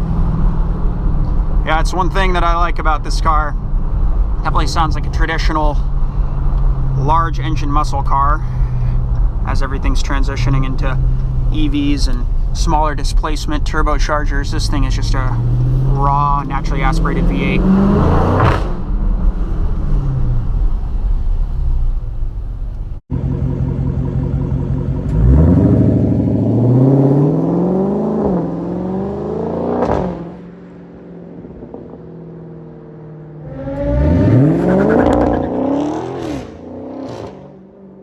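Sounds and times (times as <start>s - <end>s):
car exhaust accelerating: 0.0s - 38.0s.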